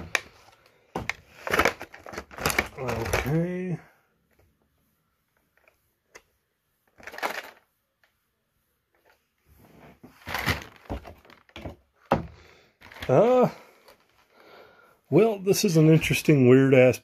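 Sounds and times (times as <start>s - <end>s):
plastic rustling and scraping: 0.0s - 8.2s, 8.8s - 14.4s.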